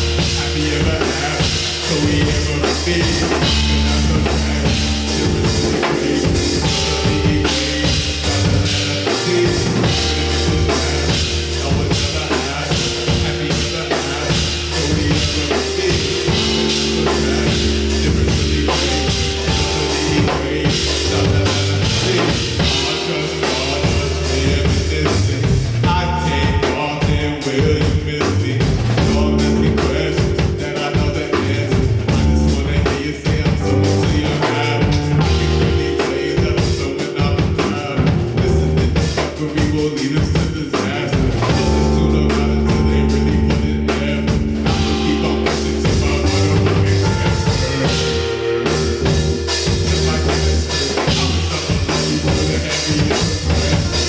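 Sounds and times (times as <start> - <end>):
drum kit steady beat: 0.0 - 54.0
live band playing: 0.0 - 54.0.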